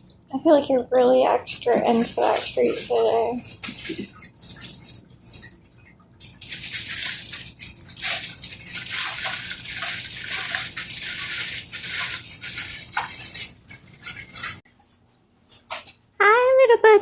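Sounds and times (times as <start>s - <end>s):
water splashing and running: 0.6s - 16.0s.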